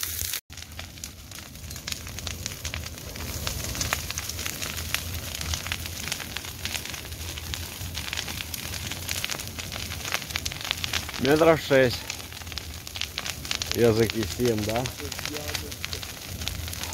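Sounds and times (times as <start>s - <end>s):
bonfire crackling and popping: 0.0s - 16.9s.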